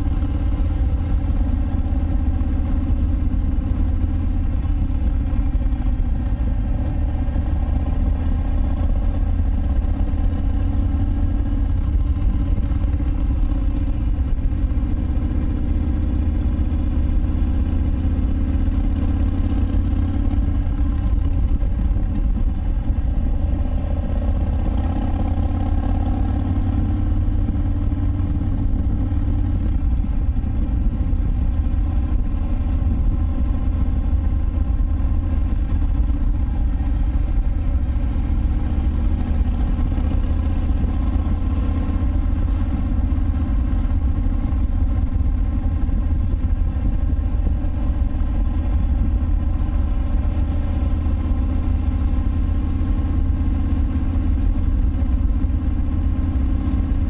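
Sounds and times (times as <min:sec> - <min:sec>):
motorcycle exhaust cruising: 0:00.0 - 0:57.0.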